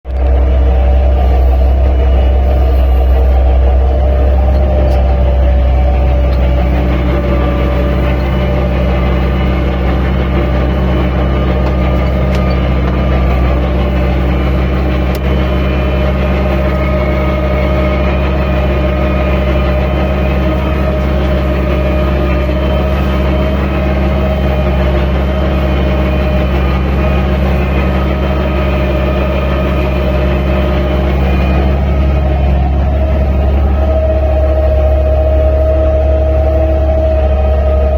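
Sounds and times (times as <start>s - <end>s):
tractor engine running under load: 0.0s - 37.9s.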